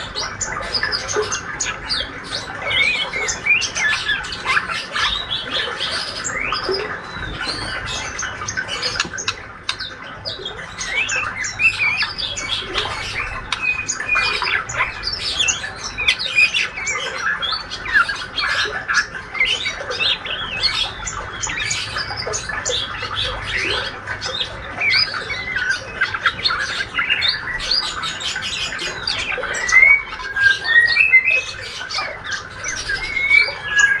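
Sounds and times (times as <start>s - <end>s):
bird twittering chirps and squeaks: 0.0s - 34.0s.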